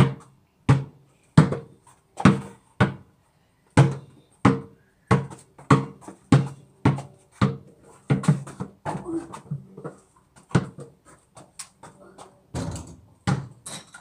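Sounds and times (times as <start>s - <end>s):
basketball bouncing on paving: 0.0s - 3.1s, 3.8s - 11.0s, 12.6s - 13.6s.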